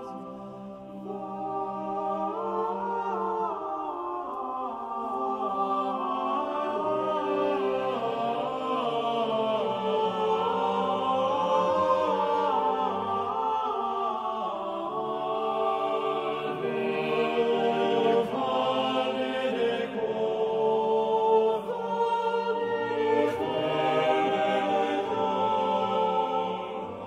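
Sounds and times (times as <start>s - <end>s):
choir singing held chords: 0.0s - 27.0s.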